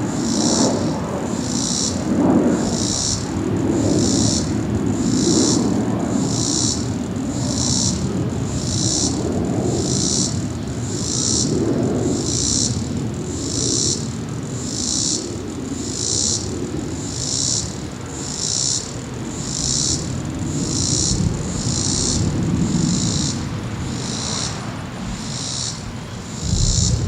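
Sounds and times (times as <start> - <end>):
insects buzzing in pulses: 0.0 - 27.0
jet aircraft rumbling: 0.0 - 27.0.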